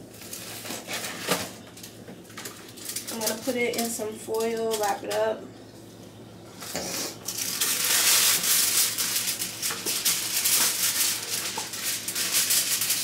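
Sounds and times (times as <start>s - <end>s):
aluminium foil crinkling: 0.0s - 5.4s, 6.5s - 13.0s.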